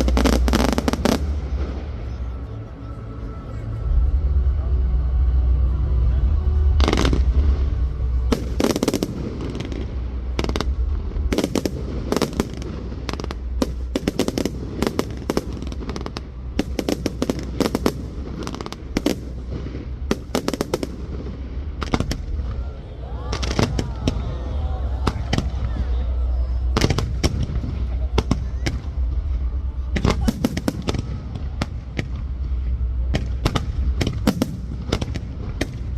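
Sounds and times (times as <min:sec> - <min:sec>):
fireworks bangs and crackles: 0:00.0 - 0:02.2, 0:06.8 - 0:35.9
low rumble: 0:00.0 - 0:35.9.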